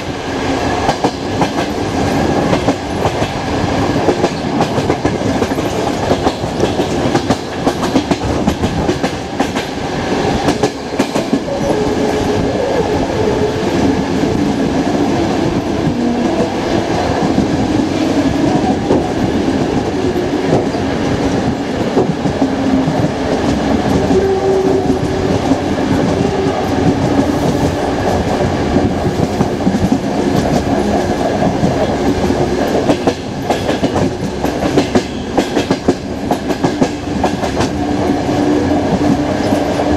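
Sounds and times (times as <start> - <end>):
train coach rumbling: 0.0 - 39.9.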